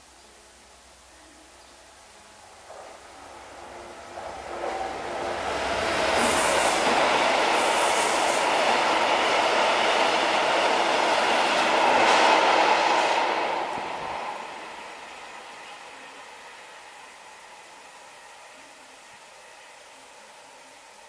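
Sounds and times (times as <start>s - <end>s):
diesel locomotive engine passing: 1.9s - 21.0s.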